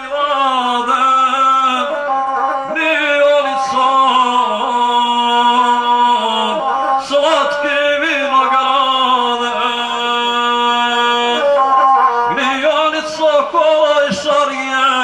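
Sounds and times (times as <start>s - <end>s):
bowed fiddle: 0.0s - 15.0s
man singing folk song: 0.0s - 15.0s.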